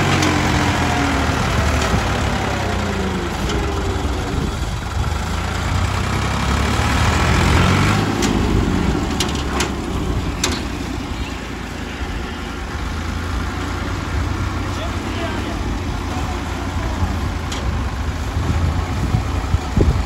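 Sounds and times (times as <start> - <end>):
tractor diesel engine working hard: 0.0 - 20.0.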